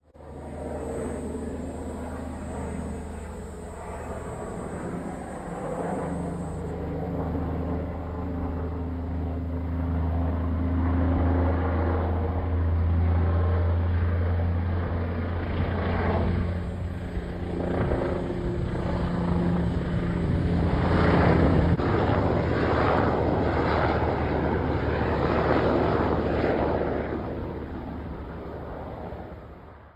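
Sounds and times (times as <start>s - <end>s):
helicopter rotors and engines droning: 0.0s - 29.9s.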